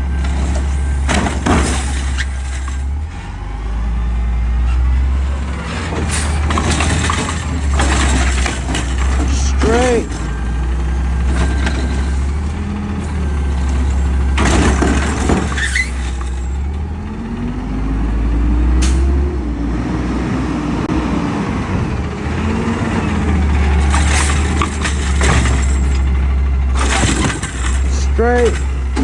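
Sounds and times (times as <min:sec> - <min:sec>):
garbage truck engine running: 0:00.0 - 0:29.0.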